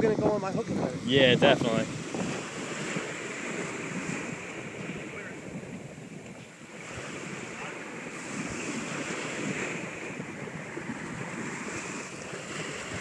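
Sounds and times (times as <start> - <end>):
ocean surf breaking: 0.0 - 13.0
wind buffeting a microphone: 0.0 - 13.0.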